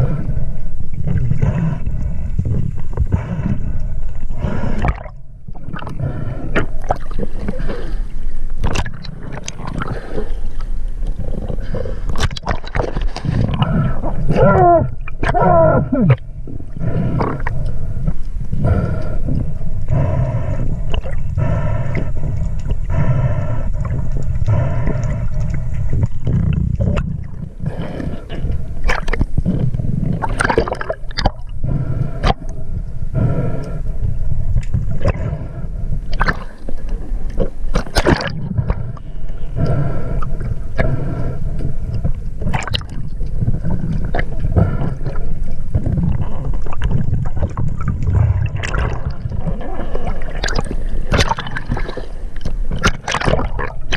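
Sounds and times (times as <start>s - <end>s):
water gurgling and sloshing: 0.0s - 53.9s.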